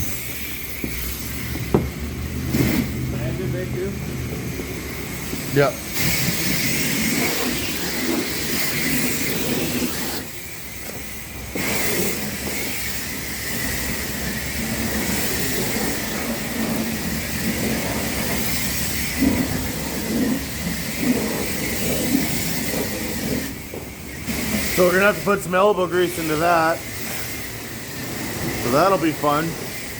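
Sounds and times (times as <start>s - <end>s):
spray wand hissing water jets: 0.0s - 29.9s.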